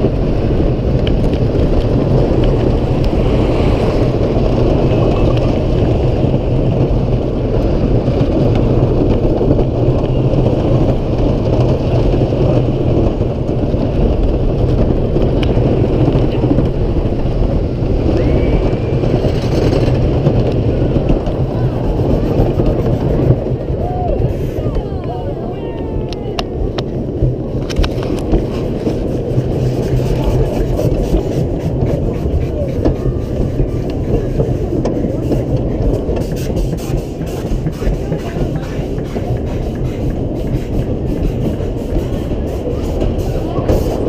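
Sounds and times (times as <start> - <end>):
roller coaster wheels rumbling on track: 0.0 - 44.0
wind buffeting microphone: 0.0 - 44.0.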